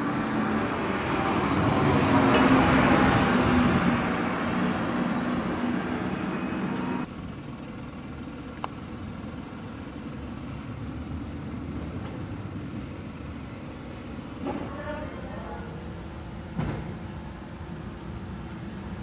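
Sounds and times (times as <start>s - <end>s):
low traffic rumble: 0.0s - 19.0s
vehicle engine running: 0.0s - 19.0s.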